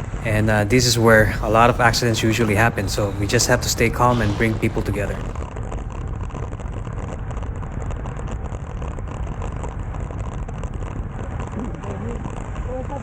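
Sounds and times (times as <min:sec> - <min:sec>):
bicycle road noise: 0:00.0 - 0:13.0
wind rumble on microphone: 0:00.0 - 0:13.0.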